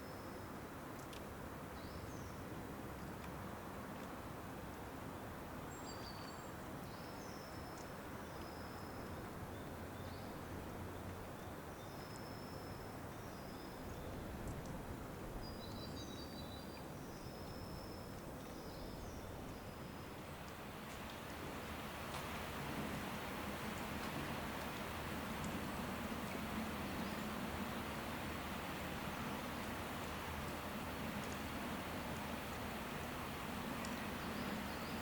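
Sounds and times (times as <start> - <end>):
outdoor ambience hiss: 0.0 - 35.0.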